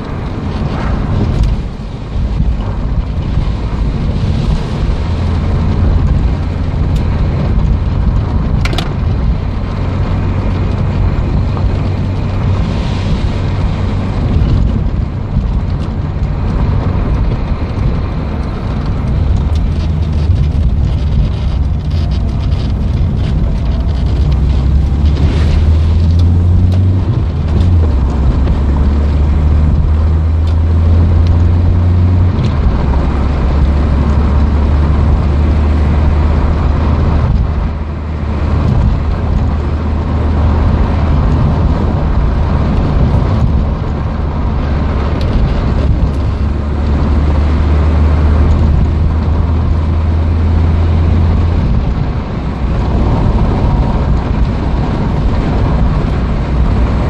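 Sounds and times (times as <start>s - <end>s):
car engine drone from inside: 0.0s - 57.0s
tyre and road noise: 0.0s - 57.0s.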